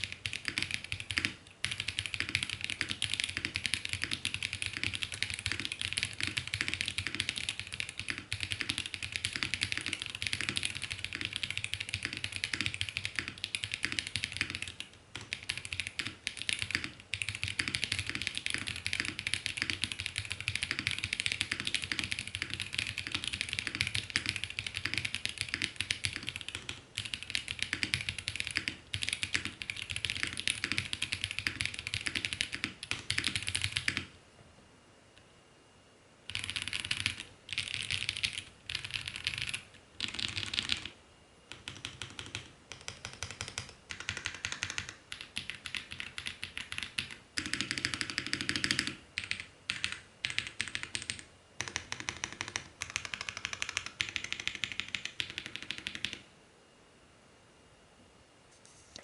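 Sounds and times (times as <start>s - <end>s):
fast mechanical keyboard typing: 0.0s - 34.1s, 36.3s - 56.2s.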